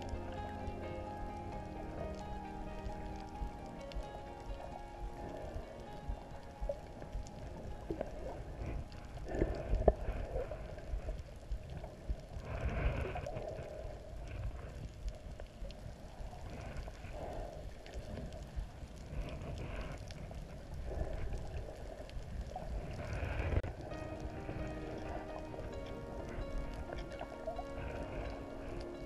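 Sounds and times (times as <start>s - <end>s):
muffled underwater rumble: 0.0s - 29.0s
swooshes of moving water: 0.0s - 29.0s.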